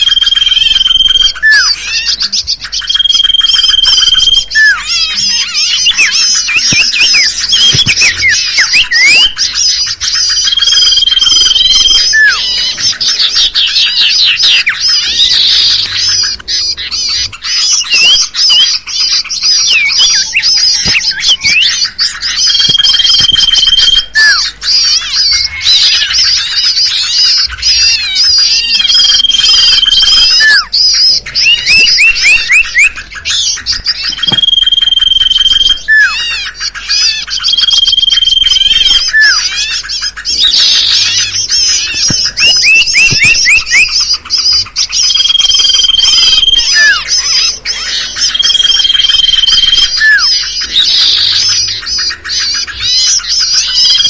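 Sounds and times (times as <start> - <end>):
songbirds chirping and chattering: 0.0 - 54.0.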